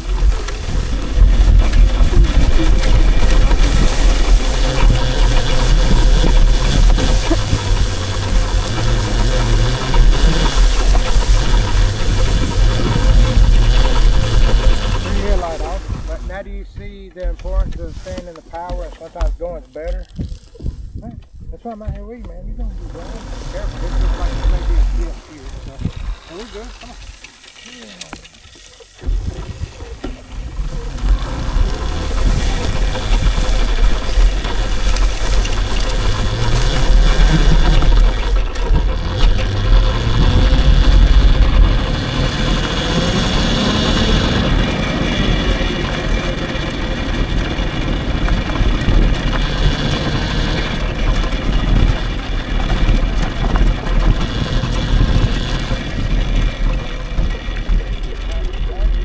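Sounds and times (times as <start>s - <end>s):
tyres on rough dirt road: 0.0s - 59.0s
wind rumbling on microphone: 0.0s - 59.0s.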